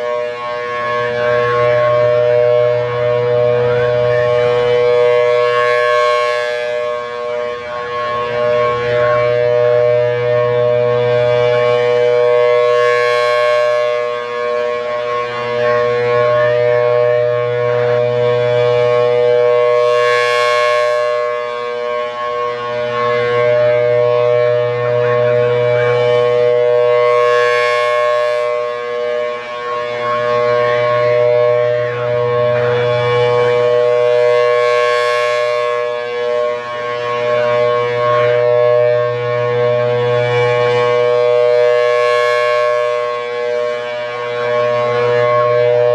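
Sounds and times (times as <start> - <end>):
rotating siren steady tone: 0.0 - 45.9.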